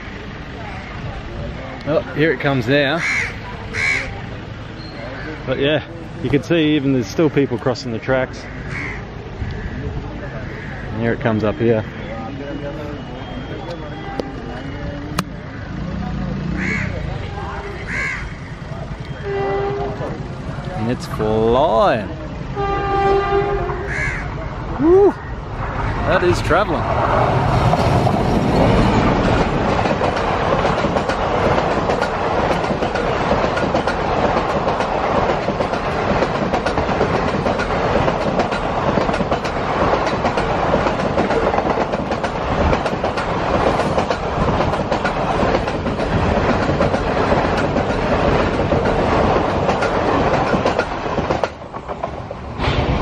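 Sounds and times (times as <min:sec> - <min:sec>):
train passing at speed: 0:00.0 - 0:53.0.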